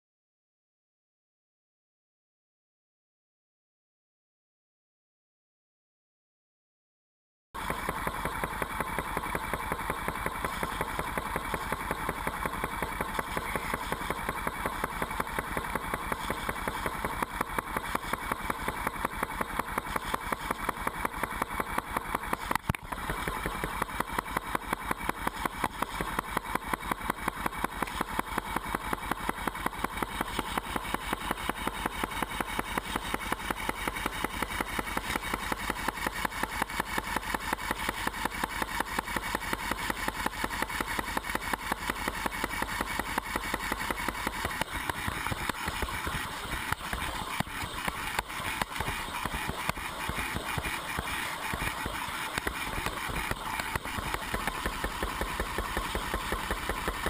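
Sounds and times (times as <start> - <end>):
lawn sprinkler pulsing spray: 7.6 - 57.0.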